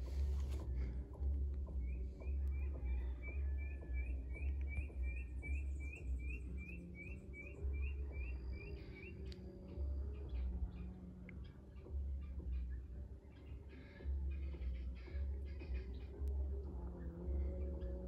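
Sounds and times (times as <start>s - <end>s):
low uneven rumble: 0.0s - 18.0s
bird chirping: 1.3s - 18.0s.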